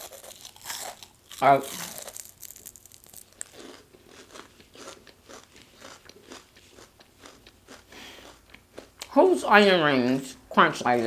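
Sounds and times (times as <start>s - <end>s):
crunchy chewing of onion ring: 0.0s - 11.0s.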